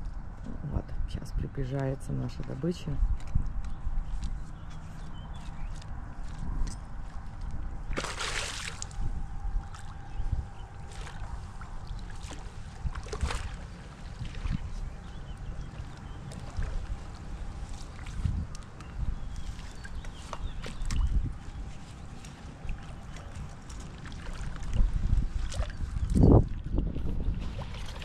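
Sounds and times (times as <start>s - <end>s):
water splashing and sloshing: 2.5s - 28.0s.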